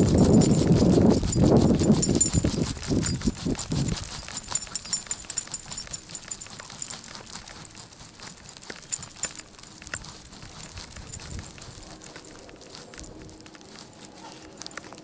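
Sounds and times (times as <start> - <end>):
dog paws tapping pavement: 0.0 - 15.0
rustling: 0.0 - 15.0.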